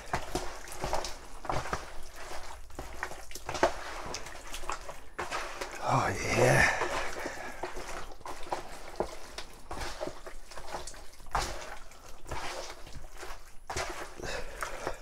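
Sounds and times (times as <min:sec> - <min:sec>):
wet squishes of kneading meat: 0:00.0 - 0:15.0.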